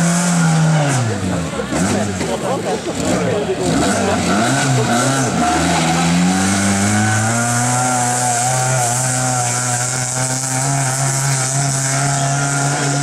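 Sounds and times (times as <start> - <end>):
rally car engine high revs: 0.0 - 13.0.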